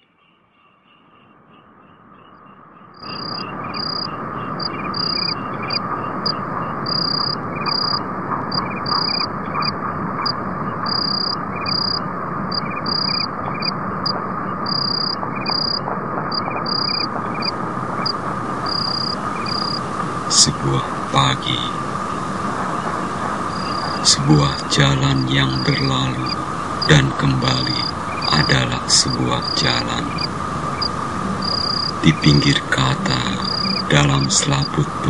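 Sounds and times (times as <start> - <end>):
insect-like high chirps: 0.0 - 20.5, 23.4 - 34.8
steady hum and hiss: 3.0 - 35.0.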